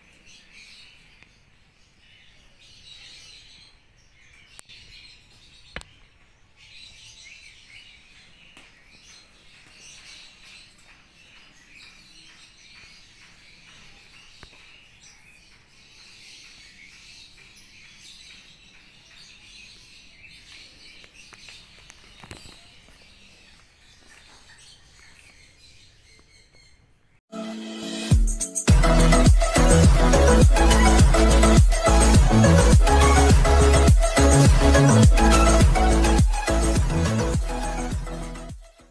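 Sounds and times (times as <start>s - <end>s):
birds chirping: 0.0s - 27.2s, 28.4s - 38.9s.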